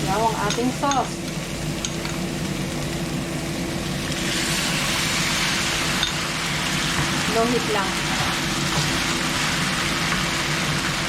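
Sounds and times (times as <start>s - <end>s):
food sizzling in a pan: 0.0s - 11.0s
low mechanical hum: 0.0s - 11.0s.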